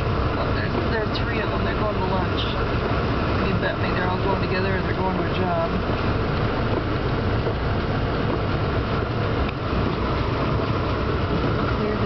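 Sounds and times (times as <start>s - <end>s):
car cabin driving rumble: 0.0s - 12.0s.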